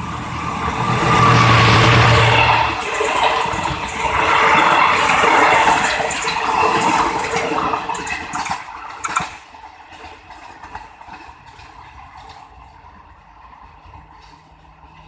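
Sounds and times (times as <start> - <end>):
passenger train rolling in: 0.0 - 15.0
train wheels clicking over rails: 0.0 - 15.0.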